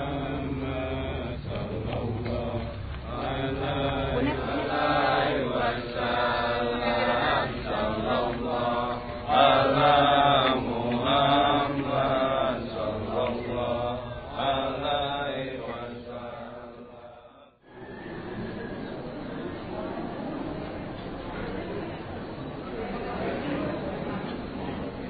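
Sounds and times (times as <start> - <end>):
voices chanting devotional chant: 0.0 - 25.0.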